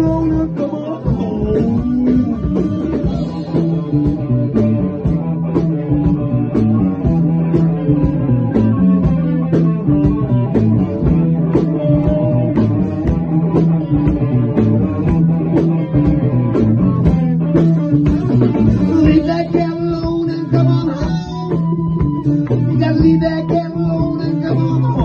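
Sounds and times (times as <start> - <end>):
drum kit beat: 0.0 - 25.0
electric guitar: 0.0 - 25.0
held low notes: 0.0 - 25.0.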